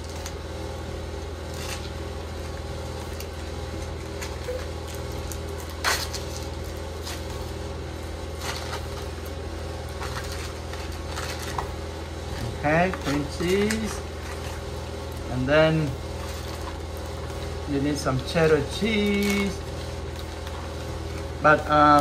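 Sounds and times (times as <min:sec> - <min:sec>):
foil wrapper crinkling: 0:00.0 - 0:00.5, 0:01.4 - 0:22.0
steady low hum: 0:00.0 - 0:22.0.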